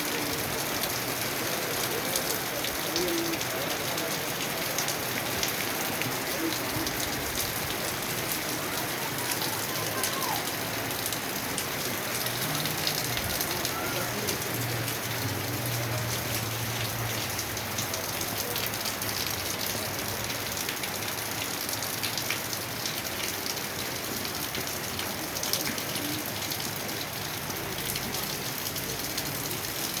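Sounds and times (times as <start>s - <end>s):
rain on hard surfaces: 0.0s - 30.0s.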